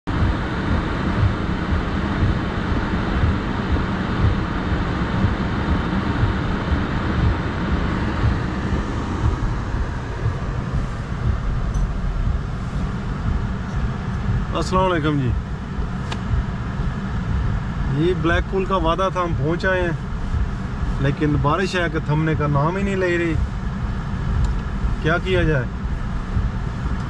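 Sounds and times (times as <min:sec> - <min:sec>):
low rumble of car: 0:00.0 - 0:27.0
rain hiss on car: 0:00.1 - 0:27.0.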